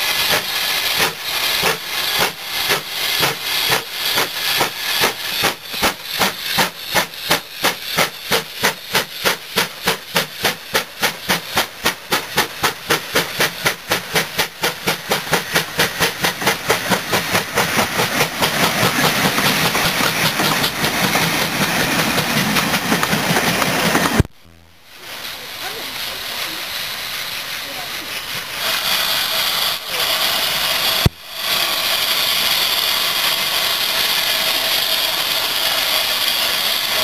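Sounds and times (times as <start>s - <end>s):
steam hissing: 0.0s - 24.3s, 24.9s - 37.0s
train coaches rumbling and clattering: 0.0s - 24.3s, 25.0s - 37.0s
steam locomotive exhaust beats: 0.0s - 37.0s.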